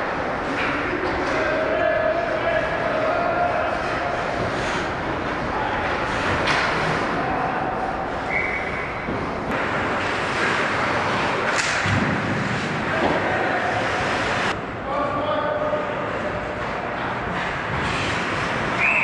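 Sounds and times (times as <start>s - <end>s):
skates on ice: 2.2s - 14.6s, 16.1s - 19.0s.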